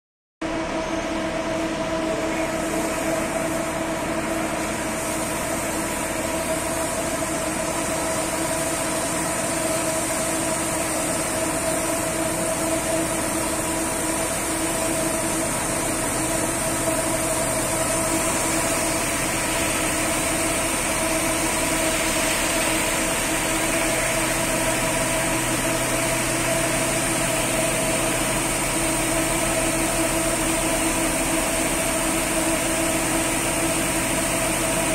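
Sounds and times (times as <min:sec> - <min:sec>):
bus wash machinery humming: 0:00.4 - 0:34.9
hiss: 0:02.4 - 0:34.9.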